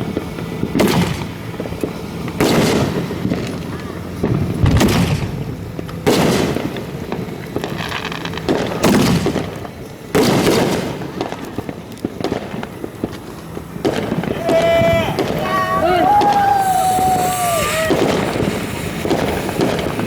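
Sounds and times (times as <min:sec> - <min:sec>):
firework booms: 0:00.0 - 0:20.0
firework pops and crackle: 0:00.0 - 0:20.0.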